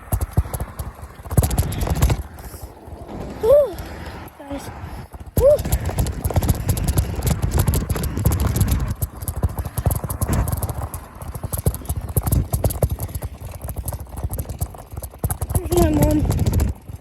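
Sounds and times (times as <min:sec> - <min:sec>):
heavy low wind rumble: 0:00.0 - 0:17.0
rapid knocking and rattling: 0:00.0 - 0:17.0.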